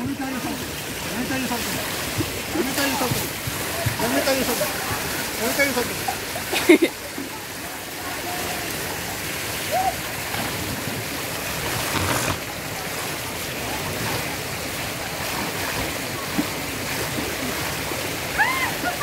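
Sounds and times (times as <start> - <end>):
water splashing in a pool: 0.0 - 19.0.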